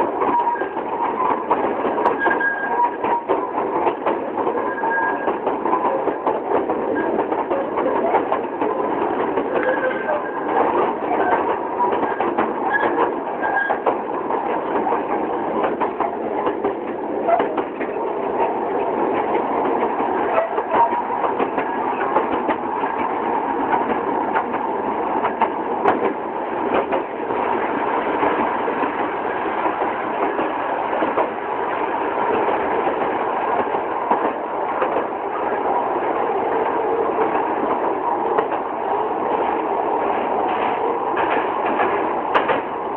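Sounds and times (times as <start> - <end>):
rail vehicle rattling on track: 0.0 - 42.9.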